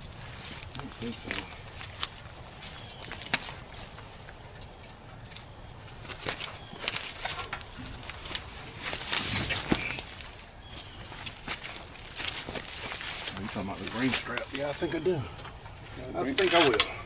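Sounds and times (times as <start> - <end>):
footsteps through brush: 0.0 - 17.0.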